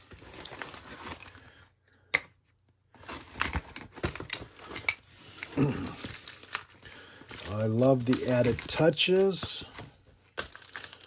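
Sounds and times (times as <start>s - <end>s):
packaging crinkling: 0.0s - 1.6s, 3.0s - 11.0s.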